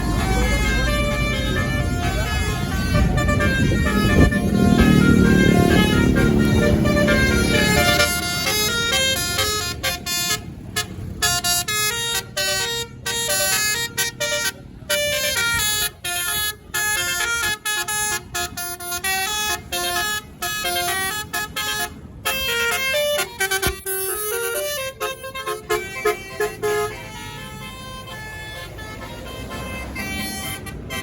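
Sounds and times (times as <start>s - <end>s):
bus engine rumble: 0.0s - 31.0s
multi-tone musical bus horn: 0.0s - 31.0s.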